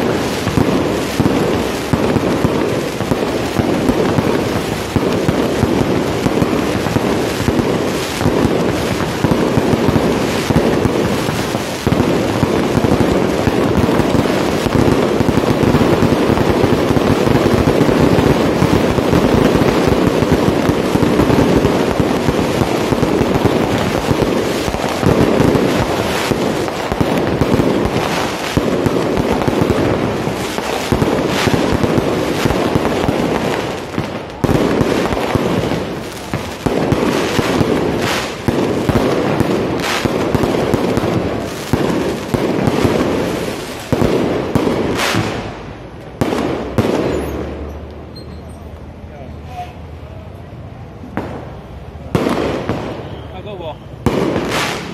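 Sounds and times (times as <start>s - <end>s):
loud firework bangs: 0.0s - 48.2s, 51.1s - 54.9s
fireworks crackling: 0.0s - 54.9s.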